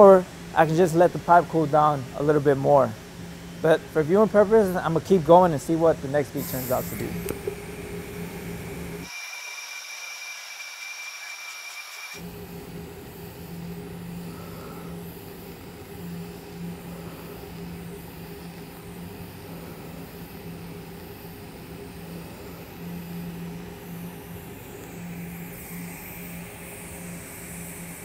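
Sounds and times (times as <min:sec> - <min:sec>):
welding arc buzzing: 0:00.0 - 0:28.0.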